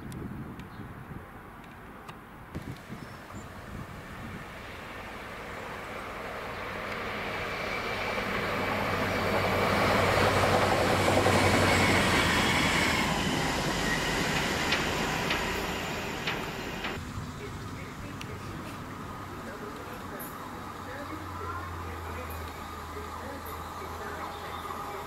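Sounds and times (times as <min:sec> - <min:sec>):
diesel locomotive engines: 0:00.0 - 0:25.0
wheels on rails: 0:02.6 - 0:25.0.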